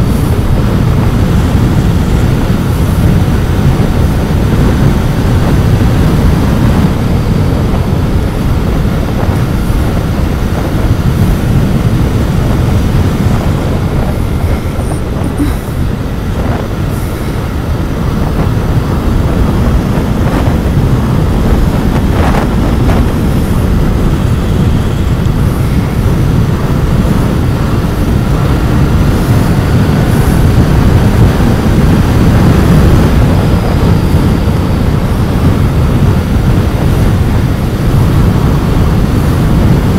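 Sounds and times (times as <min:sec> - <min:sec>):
motorcycle engine rumbling: 0:00.0 - 0:39.9
road and wind rush: 0:00.0 - 0:39.9.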